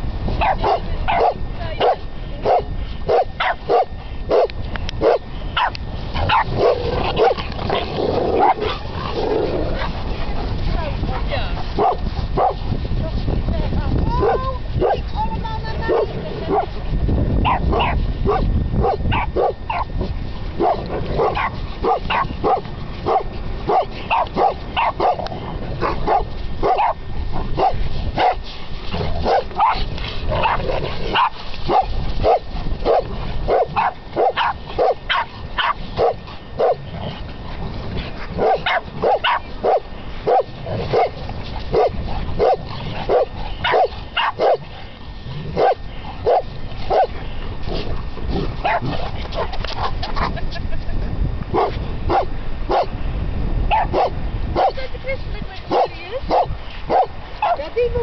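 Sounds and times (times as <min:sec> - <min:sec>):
dogs barking: 0:00.4 - 0:10.2, 0:11.2 - 0:12.6, 0:14.1 - 0:15.1, 0:15.8 - 0:16.8, 0:17.4 - 0:19.9, 0:20.6 - 0:28.4, 0:29.0 - 0:37.3, 0:38.0 - 0:47.2, 0:48.4 - 0:50.5, 0:51.5 - 0:52.9, 0:53.7 - 0:54.8, 0:55.7 - 0:57.8.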